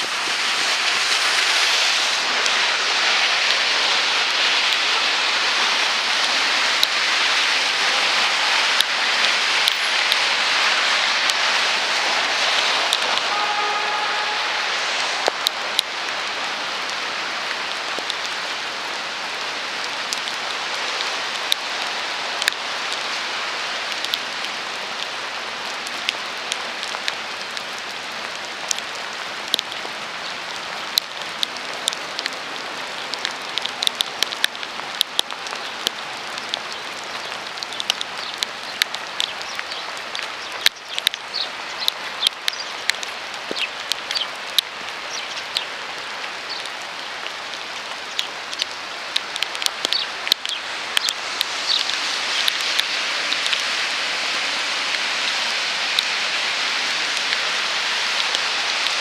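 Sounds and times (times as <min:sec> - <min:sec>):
sharp ticks of raindrops: 0:00.0 - 0:59.0
steady rain hissing: 0:00.0 - 0:59.0.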